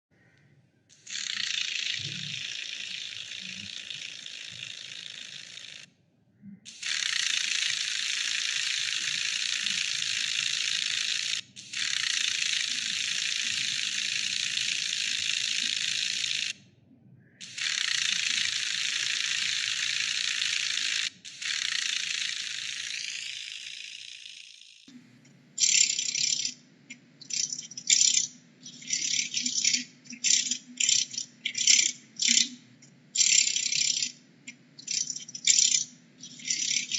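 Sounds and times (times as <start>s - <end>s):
dragonfly wings buzzing: 1.0s - 5.9s, 6.7s - 16.6s, 17.4s - 25.0s, 25.6s - 32.5s, 33.2s - 34.2s, 34.8s - 36.9s.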